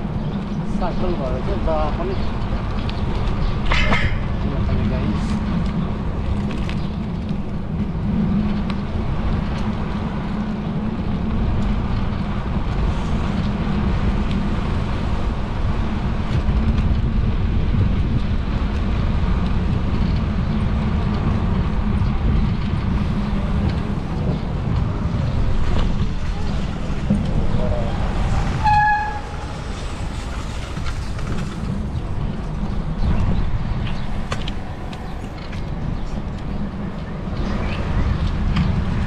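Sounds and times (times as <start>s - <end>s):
tyre rumbling over asphalt: 0.0s - 39.0s
wind buffeting microphone: 0.0s - 39.0s.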